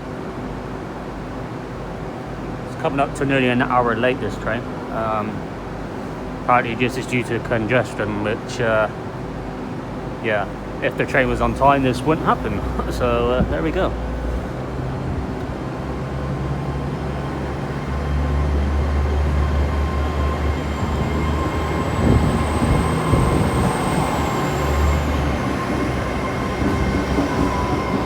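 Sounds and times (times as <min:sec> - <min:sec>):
train engines droning: 0:00.0 - 0:28.0.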